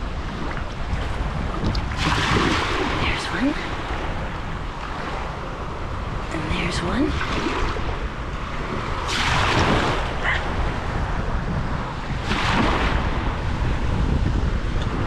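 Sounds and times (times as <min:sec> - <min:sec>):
small waves washing: 0:00.0 - 0:15.0
wind rumble on microphone: 0:00.0 - 0:15.0.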